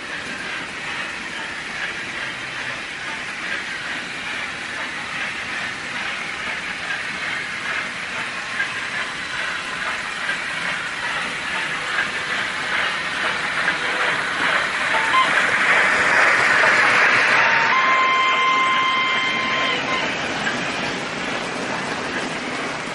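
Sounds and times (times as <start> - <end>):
model train wheels rolling on rails: 0.0 - 22.9.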